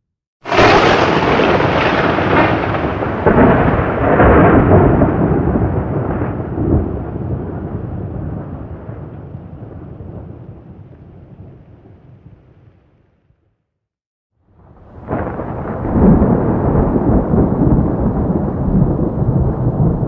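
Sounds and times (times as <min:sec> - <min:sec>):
thunder rolling: 0:00.4 - 0:12.6, 0:14.6 - 0:20.0.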